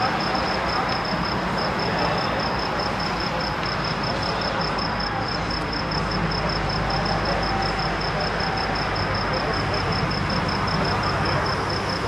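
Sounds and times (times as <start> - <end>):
background noise: 0.0 - 12.0.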